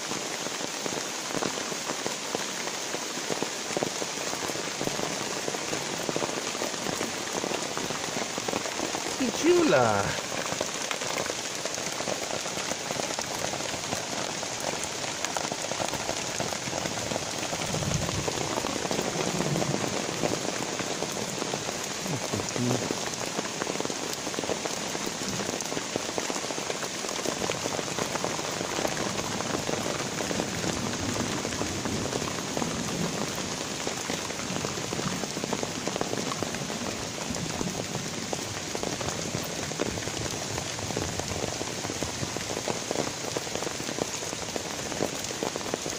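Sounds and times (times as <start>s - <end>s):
rain falling: 0.0s - 45.9s.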